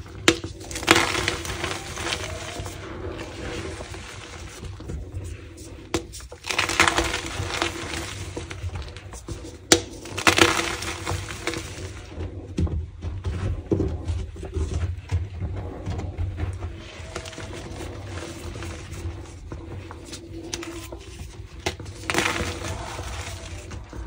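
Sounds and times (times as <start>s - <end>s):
chalk crunching and crumbling: 0.0s - 24.0s.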